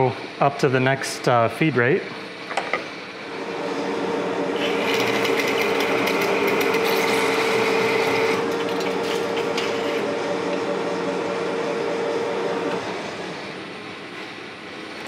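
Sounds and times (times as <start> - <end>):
lathe gear whine: 2.3 - 15.0.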